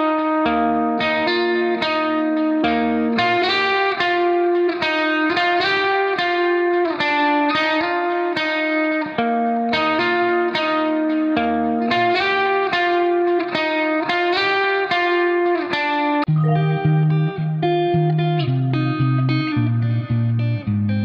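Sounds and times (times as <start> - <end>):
electric guitar melody: 0.0 - 21.0.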